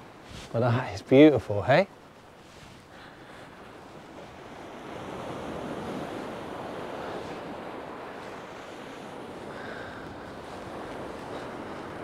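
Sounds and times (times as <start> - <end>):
surf on shingle beach: 0.0 - 12.0
wind on microphone: 2.2 - 12.0.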